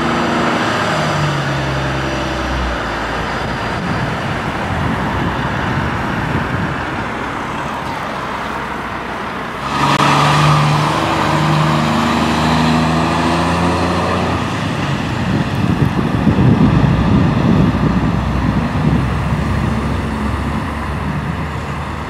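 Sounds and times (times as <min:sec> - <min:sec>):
diesel lorries driving past: 0:00.0 - 0:22.0.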